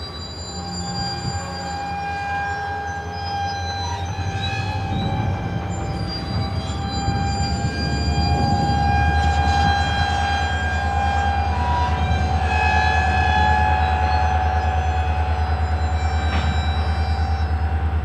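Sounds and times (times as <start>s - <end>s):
diesel locomotive rumble: 0.0s - 18.0s
train wheels squealing: 0.0s - 18.0s.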